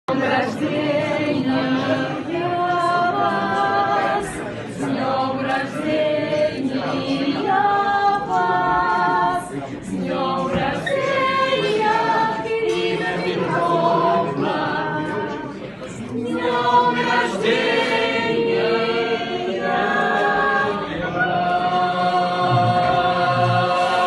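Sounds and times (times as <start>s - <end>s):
group singing a cappella: 0.1s - 24.0s.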